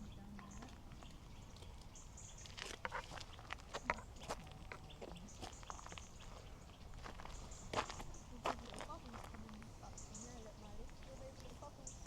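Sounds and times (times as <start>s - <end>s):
faint ticks and rustles: 0.2s - 12.0s.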